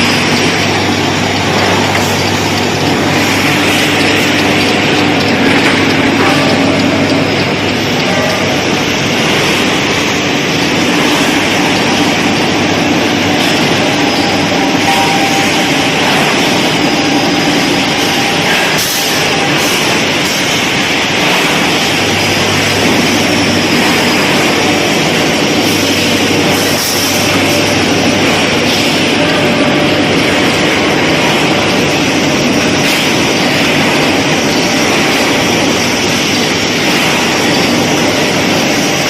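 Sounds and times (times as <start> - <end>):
industrial machinery din: 0.0 - 39.0.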